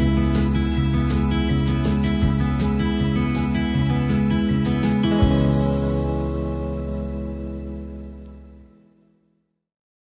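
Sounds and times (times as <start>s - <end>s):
guitar chord ringing: 0.0s - 9.0s.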